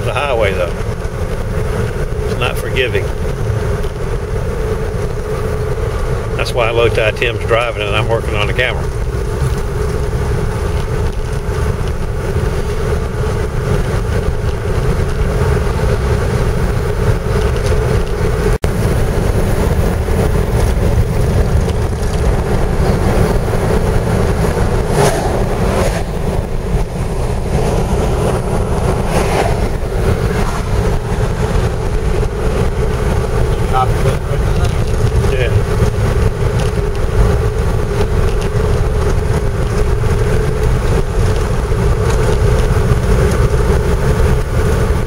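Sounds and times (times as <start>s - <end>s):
car road noise rumble: 0.0s - 45.0s.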